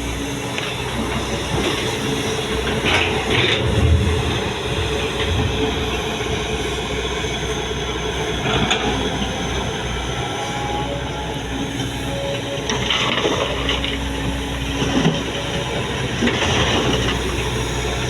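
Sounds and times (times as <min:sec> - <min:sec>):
diesel earth-moving machinery rumbling: 0:00.0 - 0:18.0.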